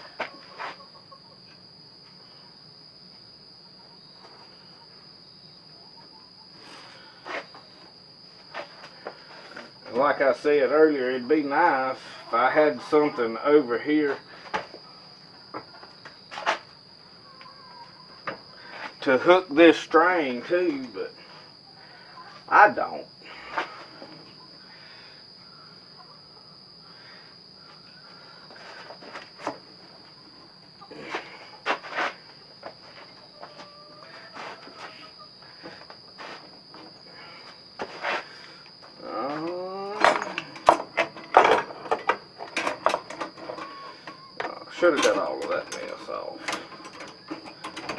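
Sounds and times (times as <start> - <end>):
high-pitched insect drone: 0.0 - 47.9.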